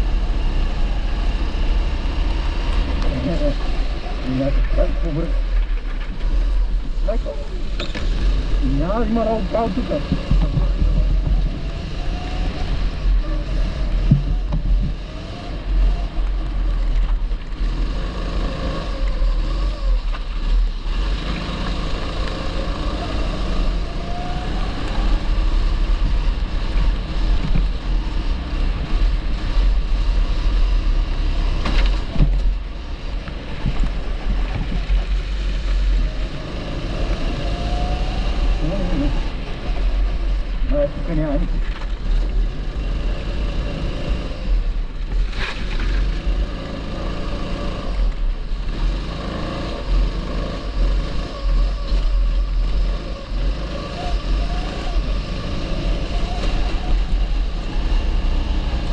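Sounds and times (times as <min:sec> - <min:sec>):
kart engine revving: 0:00.0 - 0:58.9.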